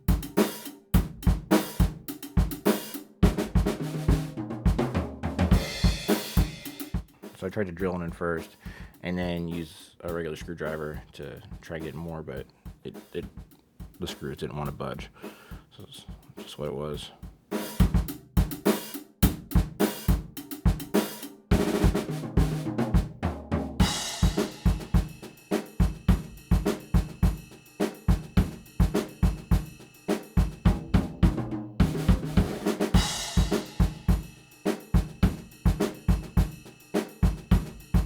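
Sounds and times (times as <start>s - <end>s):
drum kit beat music: 0.0s - 38.0s.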